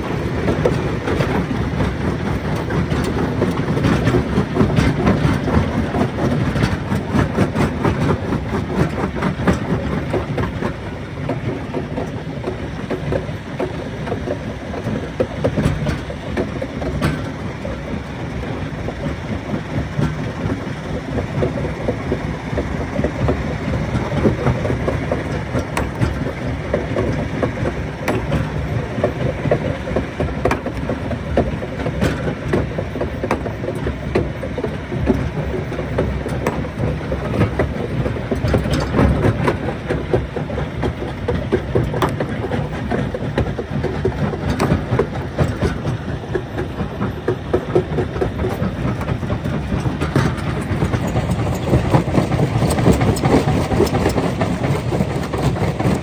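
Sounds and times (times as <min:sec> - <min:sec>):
rock crusher machine rumble: 0:00.0 - 0:56.0.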